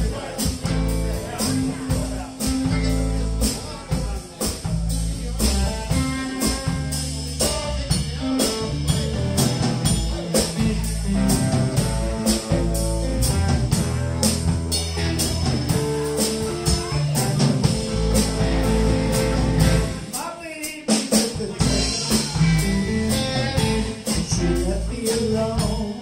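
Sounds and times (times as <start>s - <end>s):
electric bass guitar: 0.0s - 20.2s, 21.4s - 26.0s
electric guitars: 0.0s - 20.2s, 21.6s - 26.0s
drum kit beat: 0.0s - 26.0s.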